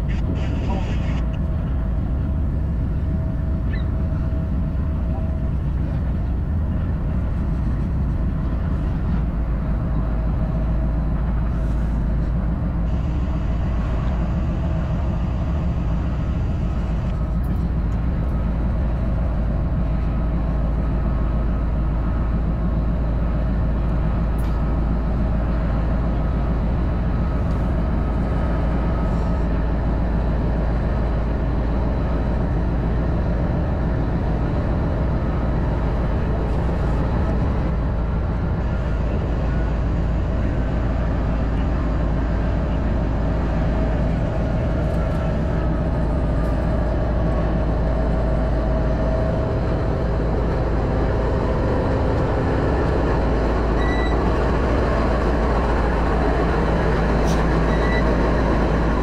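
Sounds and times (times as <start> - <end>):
diesel locomotive rumbling: 0.0 - 59.0.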